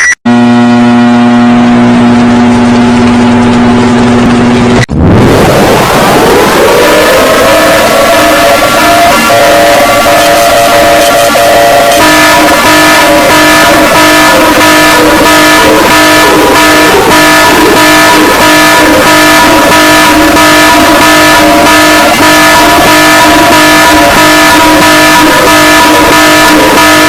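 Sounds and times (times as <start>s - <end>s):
loud distorted alarm chord: 0.0s - 27.0s
rhythmic pulsing noise: 0.3s - 27.0s.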